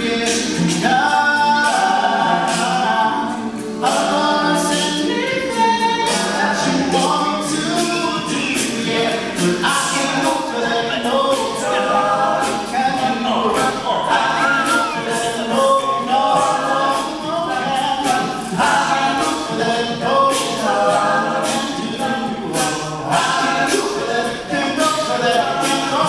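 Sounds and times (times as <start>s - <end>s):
male a cappella group singing: 0.0s - 26.0s
vocal percussion beat: 0.0s - 26.0s.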